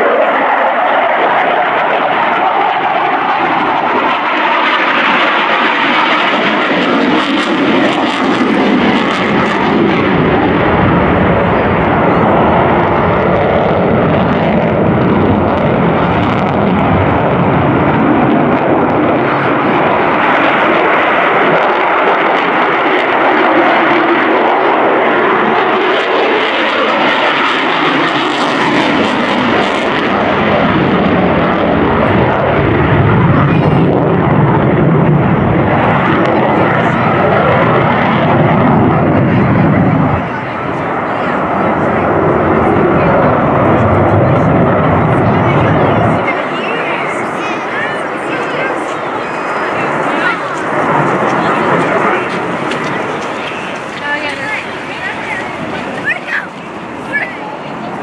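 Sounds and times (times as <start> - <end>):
jet engine roar overhead: 0.0 - 58.0.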